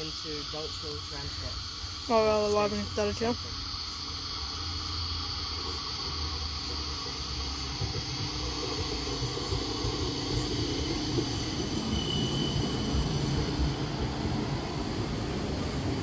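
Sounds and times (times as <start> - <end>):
tram rumbling on rails: 0.0 - 16.0.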